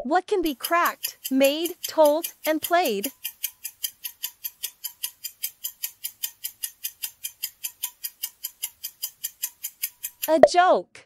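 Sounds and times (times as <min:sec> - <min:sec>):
rapid clock ticking: 0:00.3 - 0:10.5.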